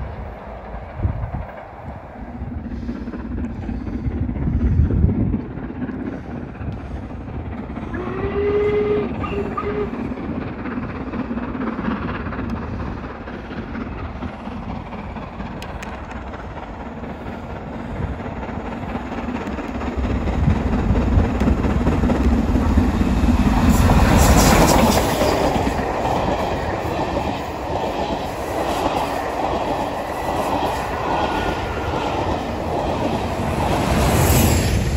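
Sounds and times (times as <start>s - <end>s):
steam locomotive passing: 0.0s - 34.9s.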